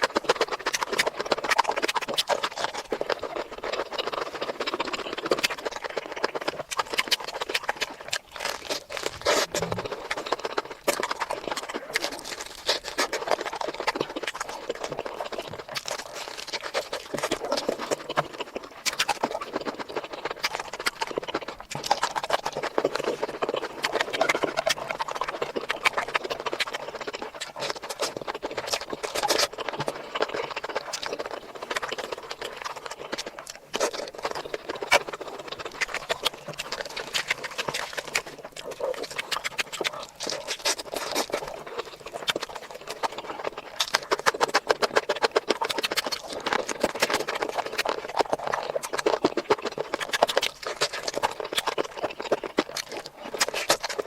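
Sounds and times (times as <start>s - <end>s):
person chewing with mouth clicks: 0.0s - 54.0s.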